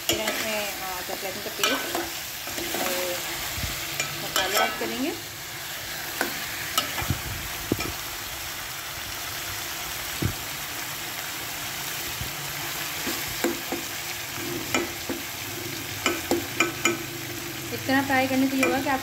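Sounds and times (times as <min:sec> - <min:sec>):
chicken and onions sizzling in oil: 0:00.0 - 0:19.0.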